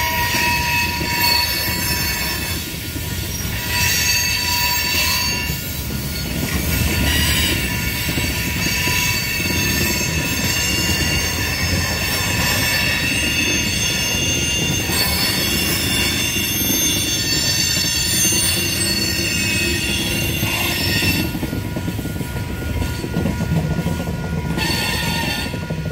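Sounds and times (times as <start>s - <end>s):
high-pitched wheel squeal: 0.0s - 2.7s, 3.3s - 21.4s, 24.5s - 25.6s
train wheels rumbling: 0.0s - 25.9s.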